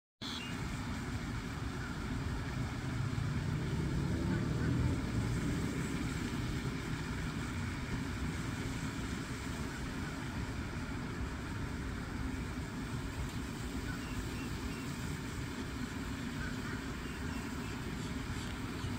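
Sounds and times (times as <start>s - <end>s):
low outdoor rumble: 0.2s - 18.9s.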